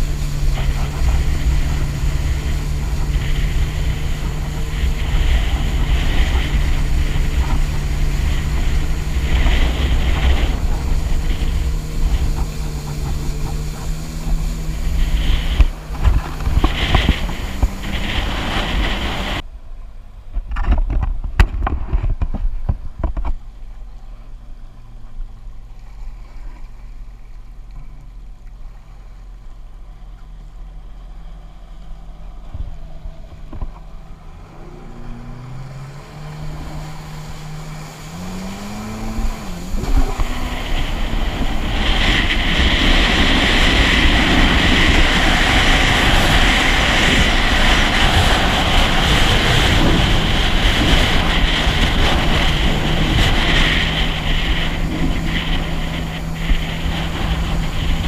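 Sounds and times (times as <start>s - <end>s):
wind on microphone: 0.0s - 19.5s, 20.3s - 24.1s, 32.1s - 58.0s
jet ski engine drone: 0.0s - 58.0s
water noise: 0.0s - 58.0s.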